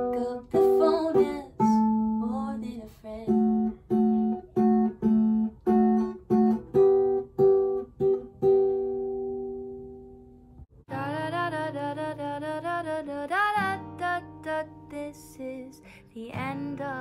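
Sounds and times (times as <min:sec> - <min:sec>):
fingerpicked acoustic guitar: 0:00.0 - 0:17.0.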